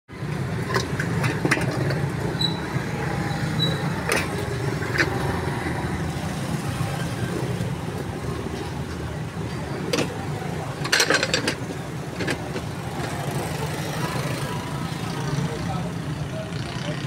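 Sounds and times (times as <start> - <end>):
street traffic rumble: 0.1 - 17.0.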